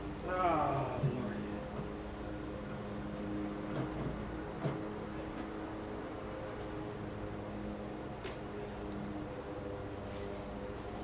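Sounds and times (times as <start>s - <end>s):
crickets chirping in trills: 0.0s - 11.0s
high insect noise: 0.0s - 11.0s.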